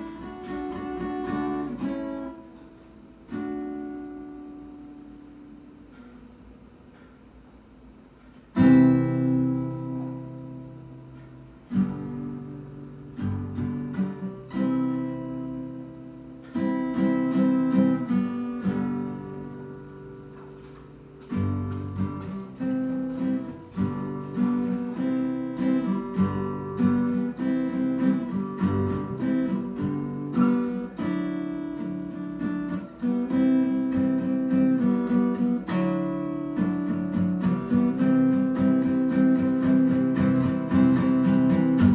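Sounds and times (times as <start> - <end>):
acoustic guitar strumming: 0.0 - 41.9.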